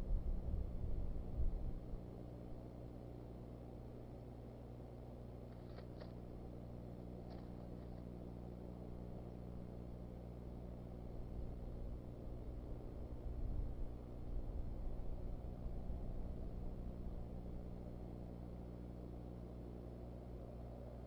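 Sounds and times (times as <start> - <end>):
low electrical hum and hiss: 0.0 - 21.0.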